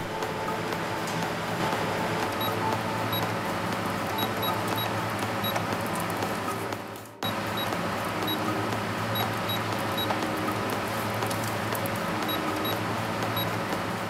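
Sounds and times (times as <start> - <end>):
faint music: 0.0 - 14.0.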